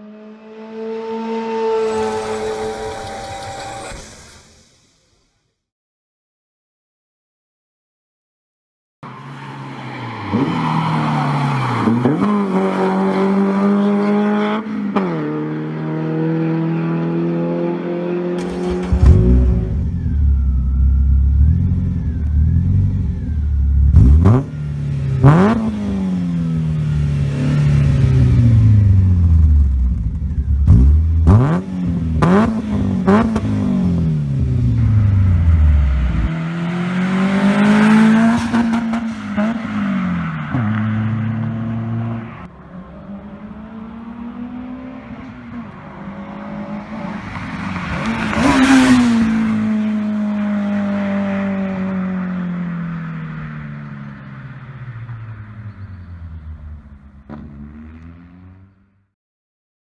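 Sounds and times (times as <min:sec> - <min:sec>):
car engine revving: 0:00.0 - 0:04.9, 0:10.1 - 0:58.8.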